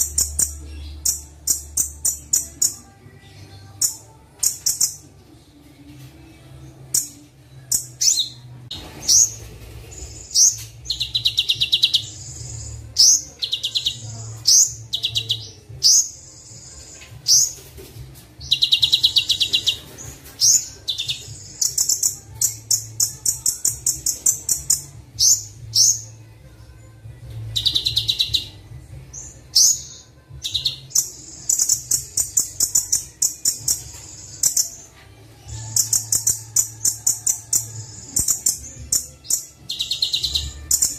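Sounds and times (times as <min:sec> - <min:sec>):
songbird trills and chirps: 0:00.0 - 0:05.2, 0:10.0 - 0:17.6, 0:18.4 - 0:26.3, 0:27.4 - 0:40.9.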